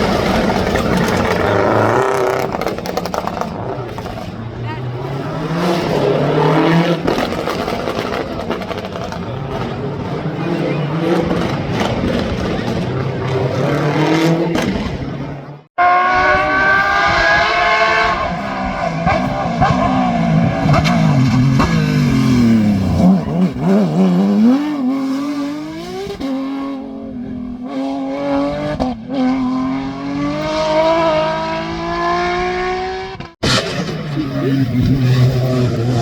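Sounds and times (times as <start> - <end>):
rally car engine at high revs: 0.0 - 36.0.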